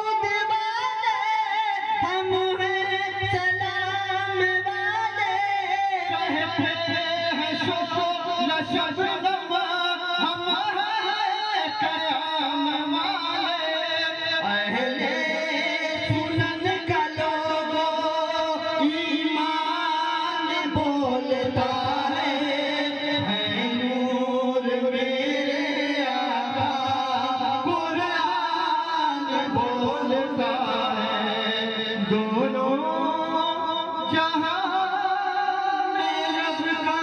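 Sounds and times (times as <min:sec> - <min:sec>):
men singing over loudspeakers: 0:00.0 - 0:37.0.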